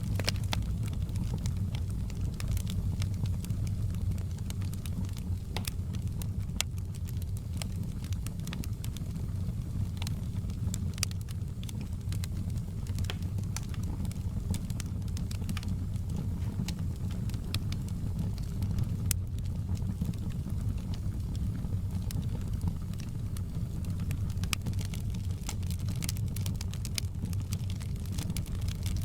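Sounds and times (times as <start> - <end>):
fire crackling and popping: 0.0 - 29.0
low fire rumble: 0.0 - 29.0.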